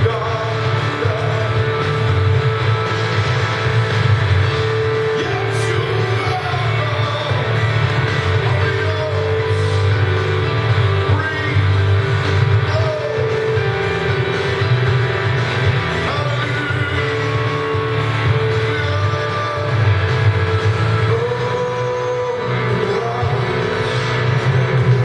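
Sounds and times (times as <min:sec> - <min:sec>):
live church band music: 0:00.0 - 0:25.0.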